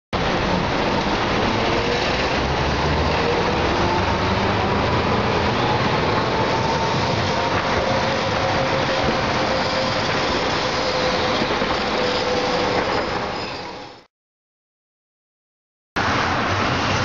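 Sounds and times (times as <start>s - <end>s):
traffic and streetcar noise: 0.2s - 14.1s, 16.0s - 17.0s.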